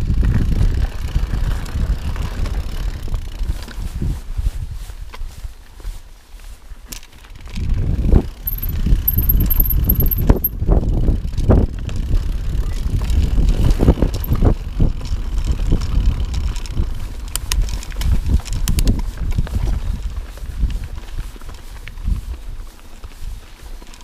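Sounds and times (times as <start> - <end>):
bike rattling over rocks: 0.0 - 4.1, 6.9 - 22.1.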